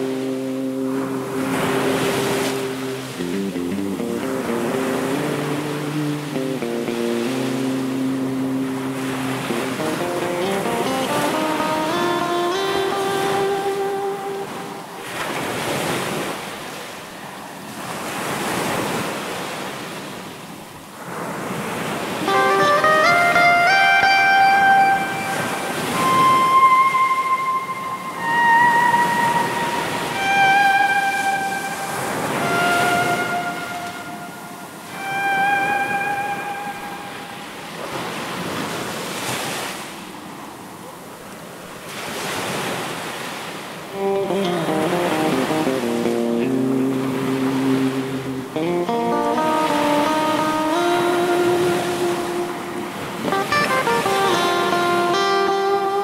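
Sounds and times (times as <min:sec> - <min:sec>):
waves washing on a shore: 0:00.0 - 0:56.0.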